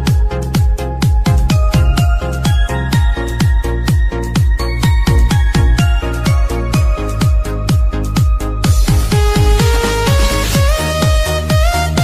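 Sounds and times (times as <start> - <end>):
fast kick drum: 0.0 - 12.0.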